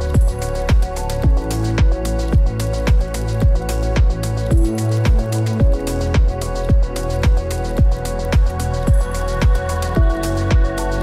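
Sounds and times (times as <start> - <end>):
low bass line: 0.0 - 11.0
kick drum beat: 0.2 - 10.8.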